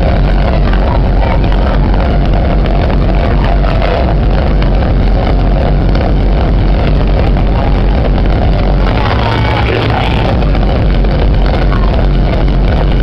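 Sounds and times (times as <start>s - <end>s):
loud dance music: 0.0s - 13.0s.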